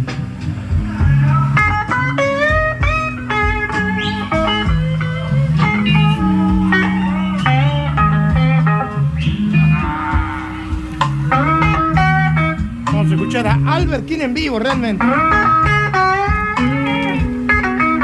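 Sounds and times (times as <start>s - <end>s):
bass line: 0.0s - 18.0s
electric guitar blues lead: 0.0s - 18.0s.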